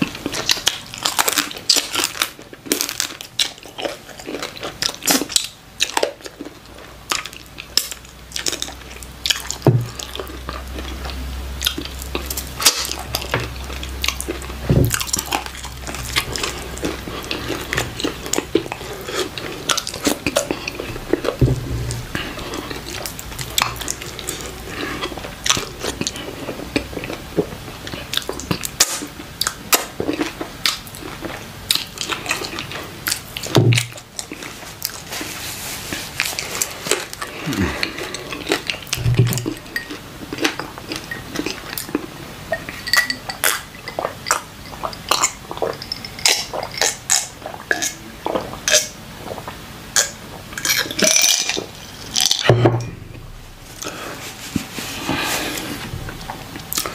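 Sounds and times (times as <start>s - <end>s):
person chewing with mouth smacks: 0.0s - 35.3s, 35.9s - 56.9s.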